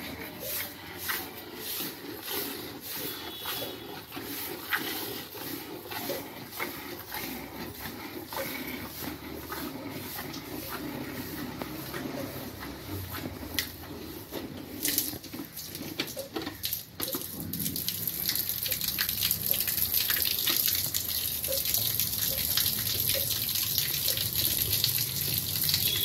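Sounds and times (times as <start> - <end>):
milk jets hissing: 0.0 - 16.2, 17.0 - 26.0.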